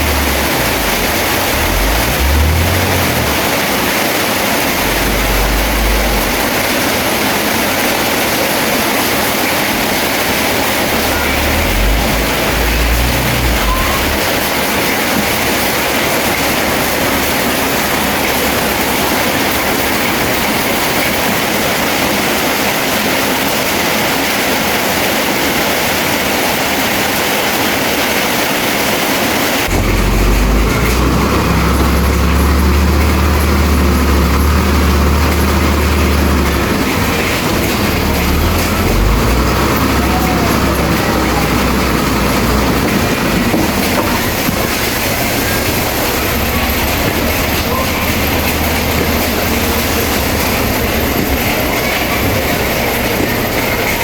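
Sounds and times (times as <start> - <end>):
diesel engine rumbling: 0.0 - 54.0
heavy rain hiss: 0.0 - 54.0.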